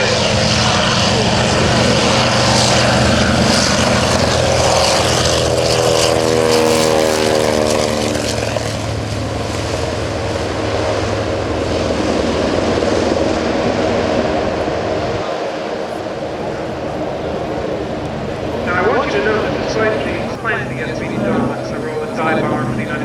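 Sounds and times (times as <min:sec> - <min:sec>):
radial aircraft engine flyby: 0:00.0 - 0:23.0.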